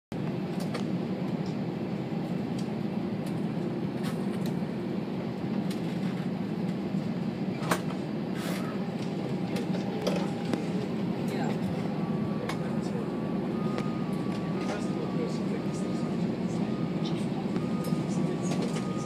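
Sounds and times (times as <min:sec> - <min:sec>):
airliner cabin rumble: 0:00.1 - 0:19.0.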